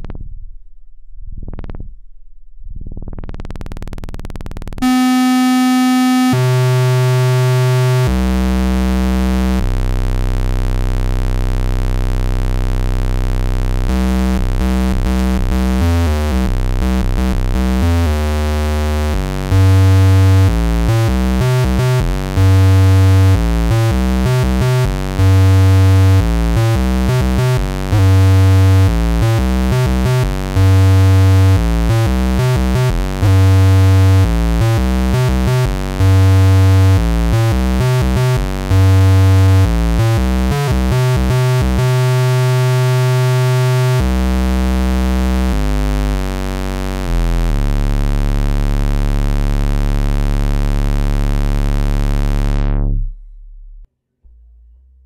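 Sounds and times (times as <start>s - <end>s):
synthesizer bass riff: 4.8s - 53.9s.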